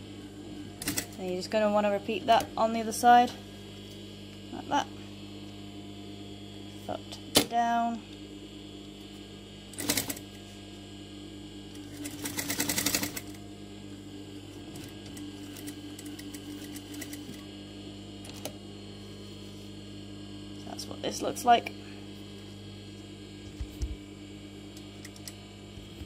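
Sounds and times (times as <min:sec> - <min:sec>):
electric hum: 0:00.0 - 0:26.0.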